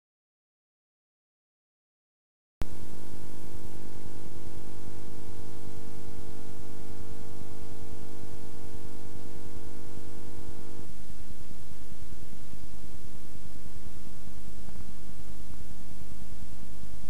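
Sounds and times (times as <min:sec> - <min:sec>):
electrical hum: 0:02.6 - 0:17.0
tape hiss: 0:02.6 - 0:17.0.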